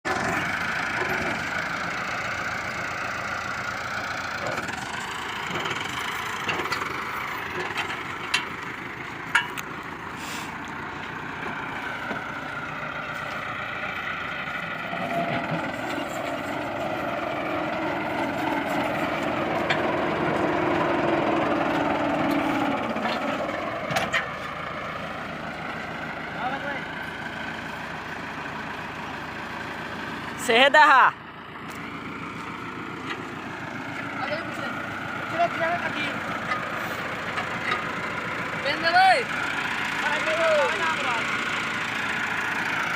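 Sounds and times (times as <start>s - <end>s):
tractor engine running thresher: 0.0s - 42.9s.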